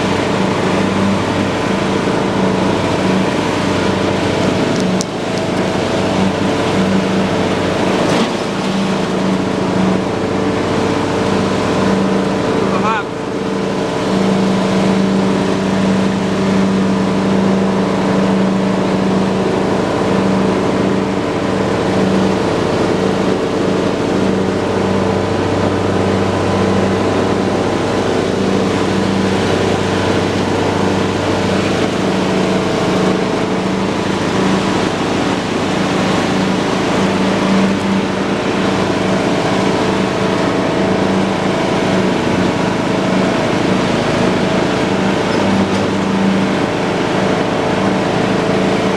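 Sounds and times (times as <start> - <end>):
lawn tractor engine running: 0.0 - 48.9.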